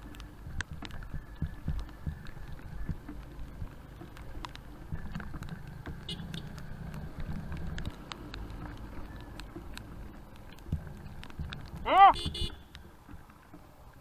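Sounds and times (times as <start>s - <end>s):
clicks and knocks from rough road: 0.0s - 14.0s
motorcycle engine rumble: 0.0s - 14.0s.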